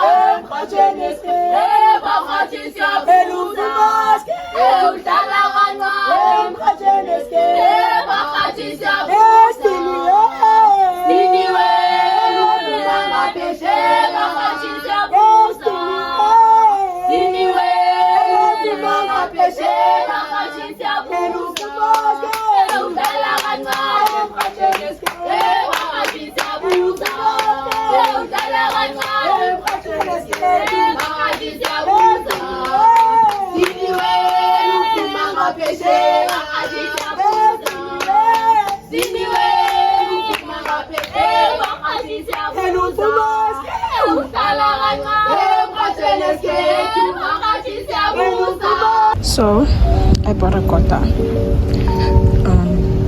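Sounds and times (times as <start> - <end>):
group singing in harmony: 0.0 - 50.3, 50.9 - 53.0.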